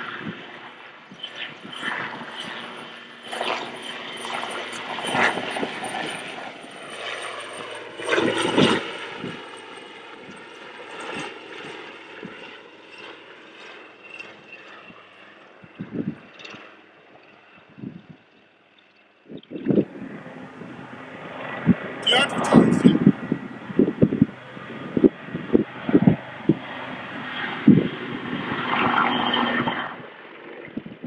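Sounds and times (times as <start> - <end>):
helicopter flying past: 0.0 - 31.0.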